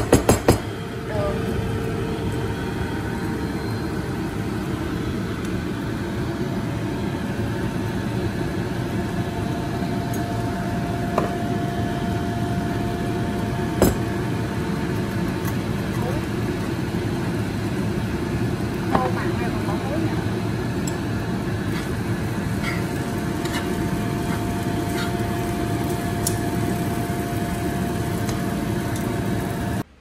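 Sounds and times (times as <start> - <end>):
kitchen appliance humming: 0.0 - 30.0.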